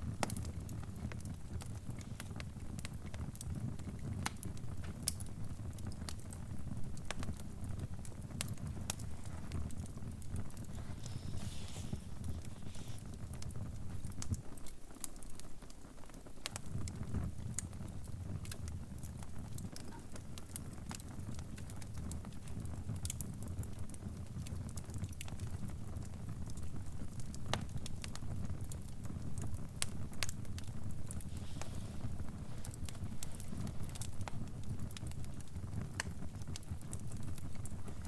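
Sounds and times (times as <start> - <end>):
fire crackling: 0.0 - 38.0.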